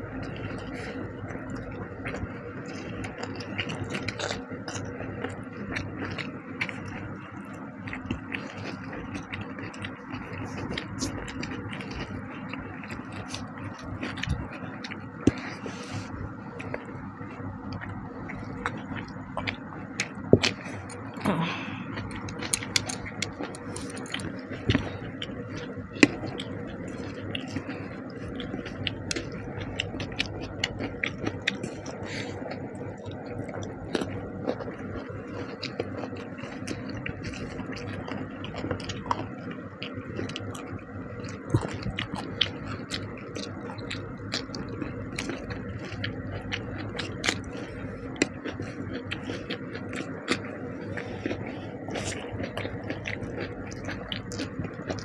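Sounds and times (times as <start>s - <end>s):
steady low hum: 0.0s - 55.0s
wet chewing and mouth noises: 0.0s - 55.0s.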